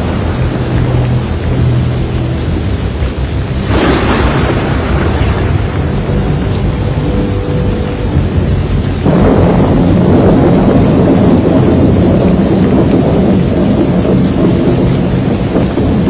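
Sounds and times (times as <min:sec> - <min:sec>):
heavy rain: 0:00.0 - 0:16.0
rumbling thunder: 0:00.0 - 0:16.0.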